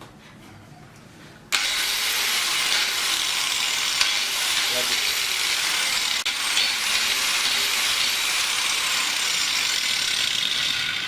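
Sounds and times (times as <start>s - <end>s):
angle grinder whirring: 1.5s - 11.0s.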